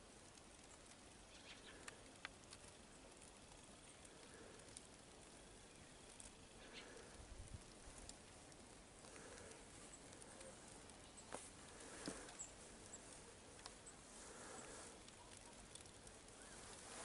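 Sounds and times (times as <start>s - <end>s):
soft ticks and patters: 0.0s - 17.0s.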